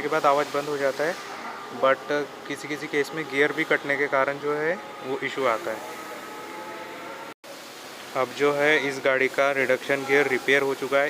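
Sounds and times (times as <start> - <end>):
background hiss and hum: 0.0 - 11.0.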